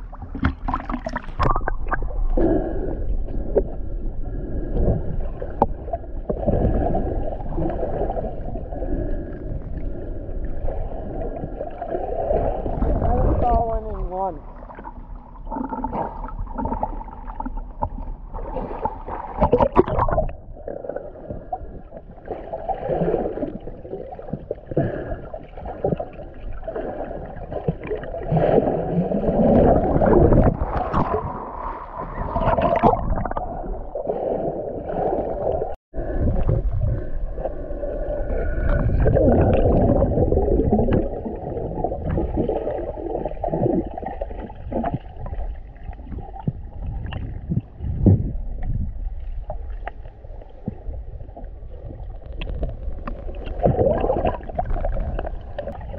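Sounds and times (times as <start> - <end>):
muffled water sloshing and gurgling: 0.0 - 55.9.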